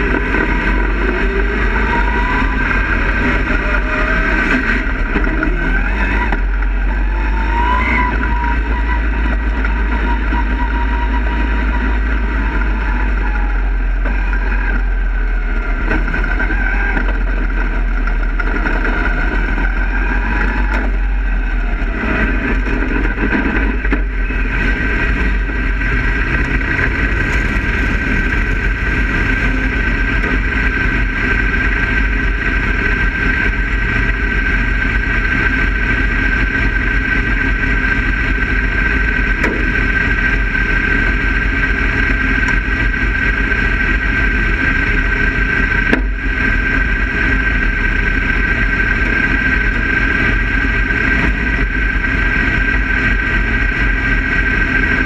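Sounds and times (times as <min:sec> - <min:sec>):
high whine: 0:00.0 - 0:55.0
race car engine idling: 0:00.0 - 0:55.0.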